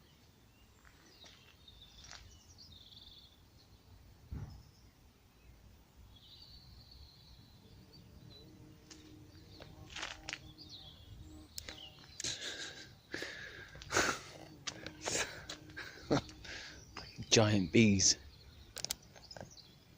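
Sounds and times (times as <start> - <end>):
small birds chirping: 0.0 - 19.9
bee buzzing: 1.1 - 19.4.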